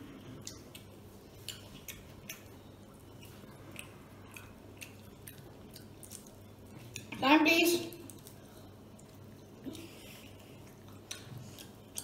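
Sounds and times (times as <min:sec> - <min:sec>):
faint chewing with wet clicks: 0:00.0 - 0:07.2, 0:07.9 - 0:12.0
low steady hum: 0:00.0 - 0:12.0.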